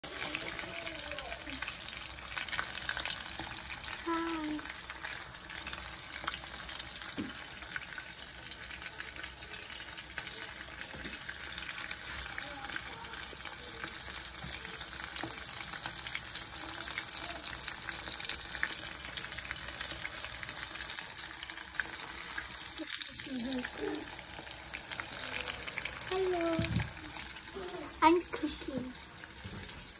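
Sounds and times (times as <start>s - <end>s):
fish sizzling in oil: 0.0s - 29.9s.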